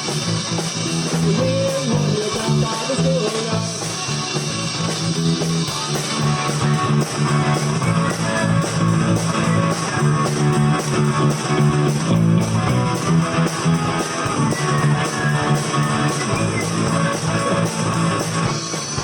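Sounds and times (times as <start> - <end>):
bass guitar: 0.0 - 19.0
rock band playing: 0.0 - 19.0
strummed guitars: 0.0 - 19.0.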